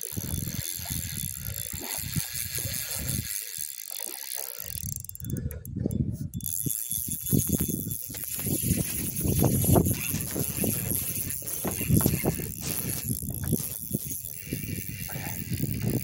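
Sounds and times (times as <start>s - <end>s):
fishing reel cranking and rattling: 0.0s - 16.0s.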